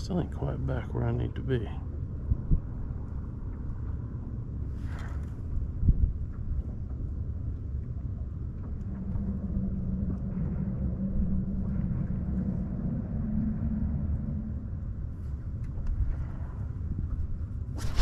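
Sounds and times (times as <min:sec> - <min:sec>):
distant engine hum: 0:00.0 - 0:18.0
low outdoor rumble: 0:00.0 - 0:18.0.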